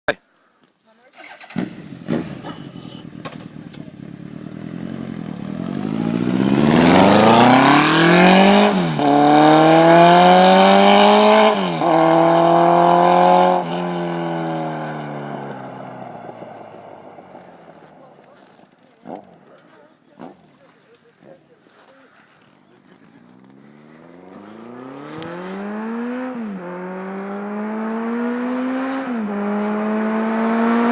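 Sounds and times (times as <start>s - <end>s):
motorcycle engine revving and upshifting: 1.5s - 20.8s, 21.7s - 30.9s.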